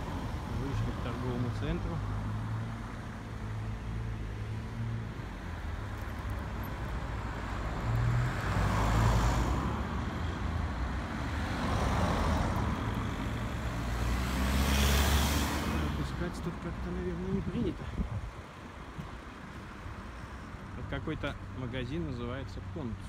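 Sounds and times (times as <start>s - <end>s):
vehicles driving past: 0.0s - 23.0s.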